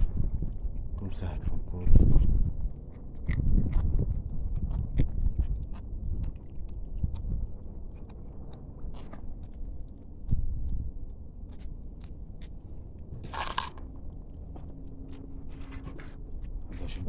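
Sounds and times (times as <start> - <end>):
kittens chewing and eating: 0.0 - 17.0.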